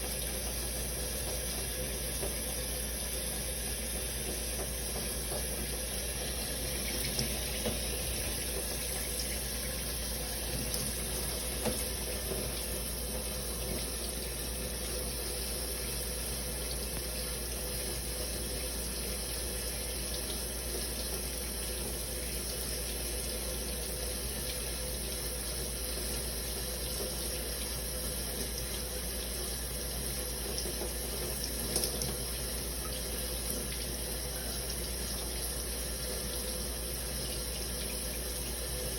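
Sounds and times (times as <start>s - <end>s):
shower water running: 0.0s - 38.9s.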